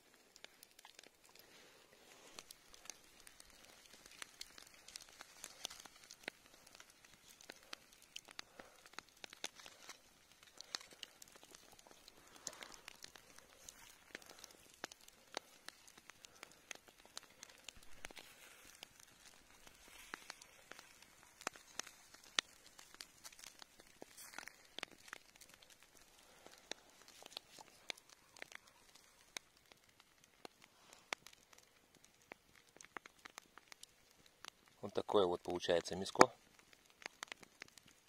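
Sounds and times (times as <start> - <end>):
embers and meat crackling: 0.0 - 38.0.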